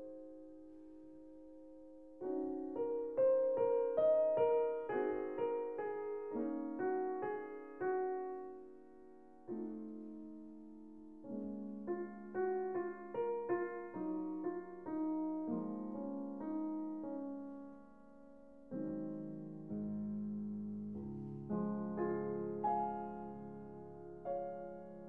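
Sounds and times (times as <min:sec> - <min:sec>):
soft solo piano music: 0:00.0 - 0:25.0.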